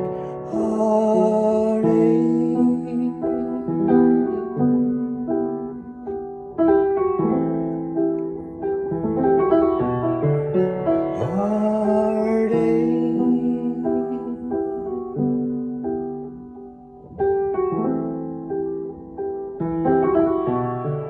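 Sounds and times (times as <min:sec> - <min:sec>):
piano playing chords: 0:00.0 - 0:21.0.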